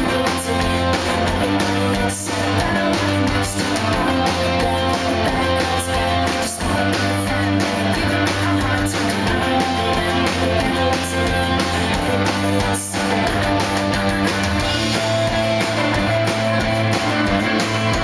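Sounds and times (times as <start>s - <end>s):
bass guitar: 0.0s - 18.0s
drums: 0.0s - 18.0s
electric guitars strumming: 0.0s - 18.0s.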